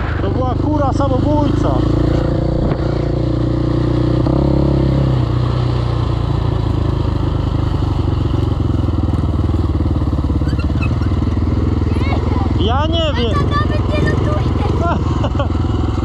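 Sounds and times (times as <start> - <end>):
quad engine running: 0.0 - 16.0.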